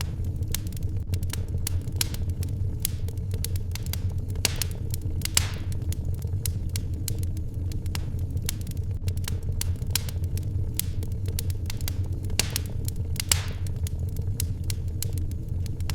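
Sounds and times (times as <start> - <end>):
low rumble: 0.0 - 15.9
wood fire crackling and popping: 0.0 - 15.9.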